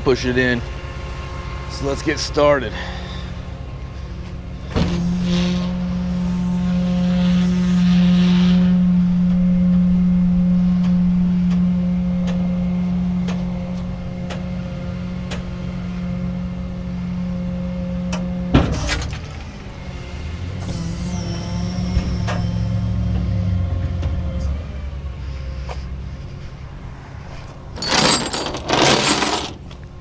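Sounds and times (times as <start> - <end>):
tow truck hydraulics humming: 0.7 - 30.0.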